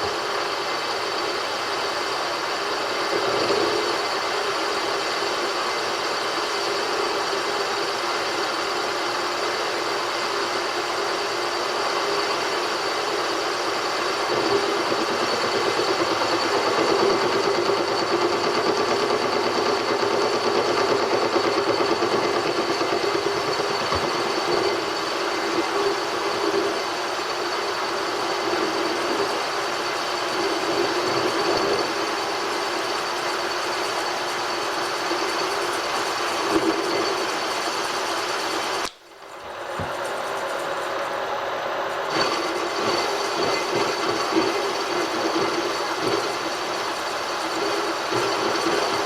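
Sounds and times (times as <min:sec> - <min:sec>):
machine spindle boring metal: 0:00.0 - 0:49.0.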